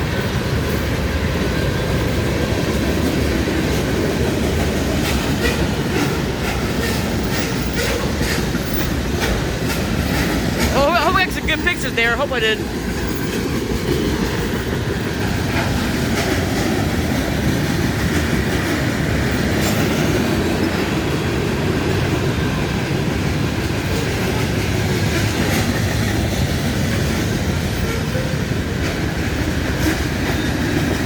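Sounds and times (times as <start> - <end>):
train rumbling on track: 0.0 - 31.0
train wheel clacks: 0.0 - 31.0.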